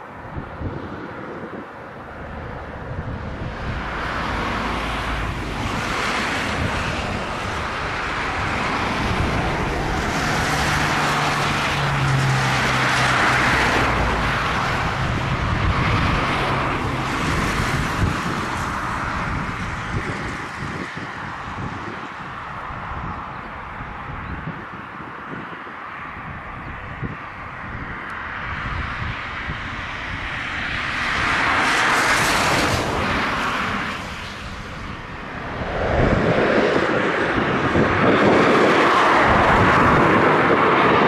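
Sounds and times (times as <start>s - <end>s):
jet engines passing: 0.0s - 41.0s
wind buffeting microphone: 0.0s - 41.0s.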